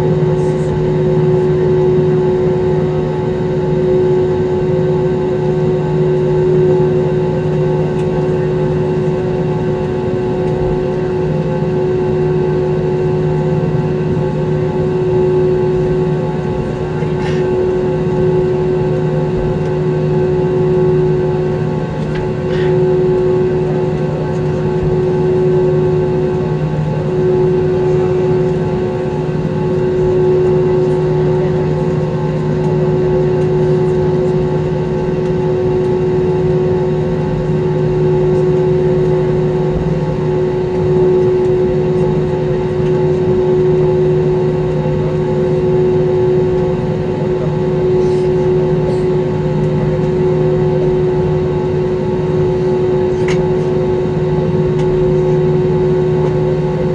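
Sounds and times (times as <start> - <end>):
cabin air system hum: 0.0 - 56.9
jet engines at taxi idle: 0.0 - 56.9.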